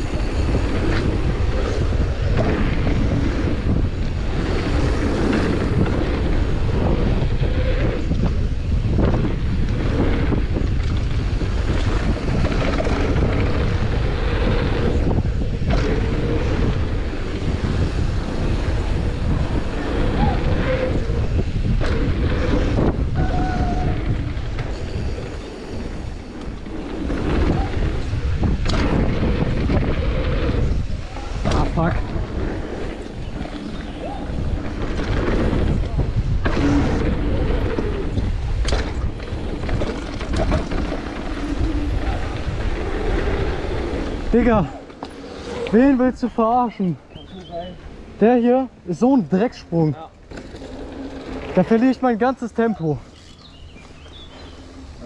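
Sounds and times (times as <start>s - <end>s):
bike rattling and knocking: 0.0s - 47.1s, 49.0s - 55.0s
tyre roar on dirt: 0.0s - 55.0s
wind buffeting microphone: 0.0s - 55.0s.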